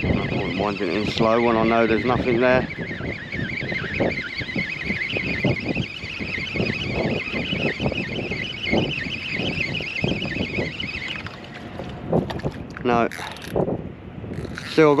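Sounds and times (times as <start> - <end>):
fishing reel whining: 0.0 - 11.4, 14.3 - 15.0.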